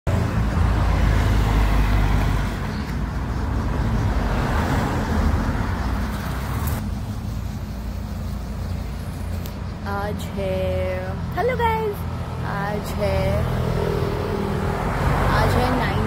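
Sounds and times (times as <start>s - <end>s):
traffic rumble: 0.1s - 16.0s.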